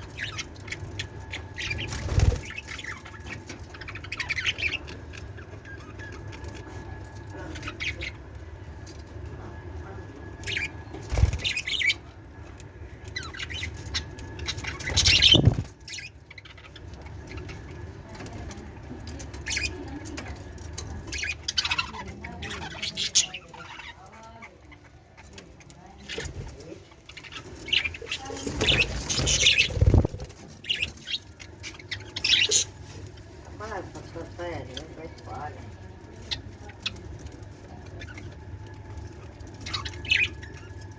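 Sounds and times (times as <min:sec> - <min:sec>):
budgerigars chirping: 0:00.0 - 0:08.5, 0:10.4 - 0:20.0, 0:20.8 - 0:25.4, 0:27.0 - 0:33.1, 0:36.2 - 0:40.9.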